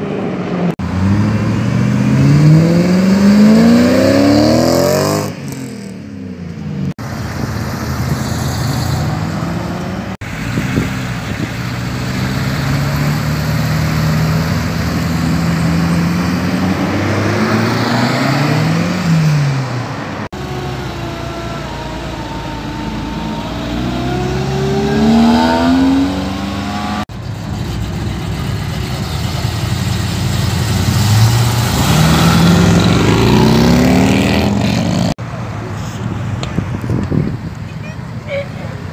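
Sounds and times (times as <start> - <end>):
car engines accelerating: 0.0 - 38.9.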